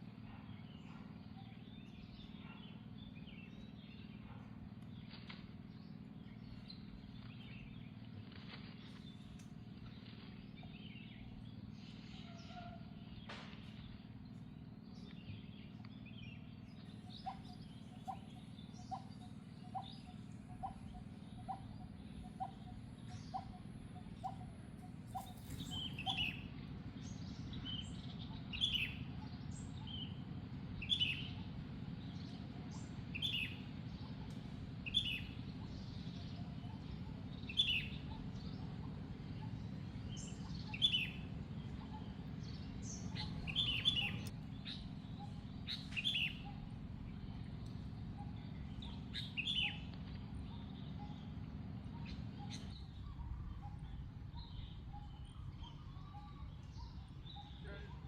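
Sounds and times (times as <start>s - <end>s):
steady low hum: 0.0s - 58.0s
bird chirping: 10.0s - 58.0s.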